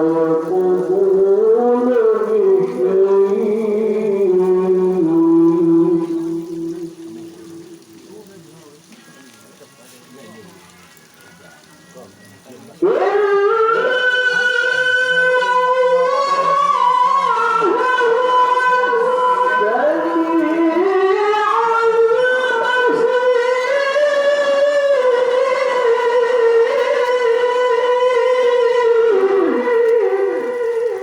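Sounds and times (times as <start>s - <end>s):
man reciting melodically: 0.0s - 31.0s.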